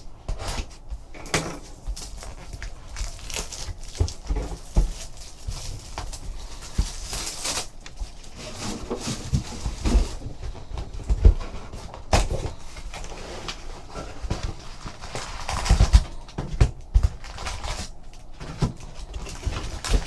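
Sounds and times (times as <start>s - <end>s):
wrapper crinkling and tearing: 1.6s - 10.2s, 12.1s - 20.0s.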